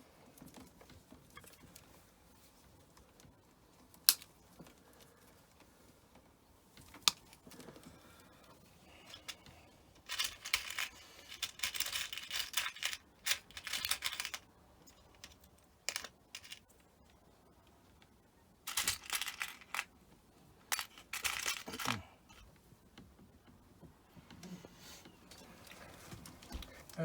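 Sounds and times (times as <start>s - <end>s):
hands and tools rustling and clicking: 0.0s - 27.0s.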